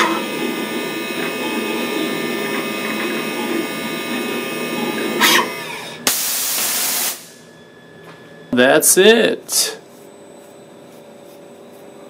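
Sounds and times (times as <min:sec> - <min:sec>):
spindle whine: 0:00.0 - 0:10.8.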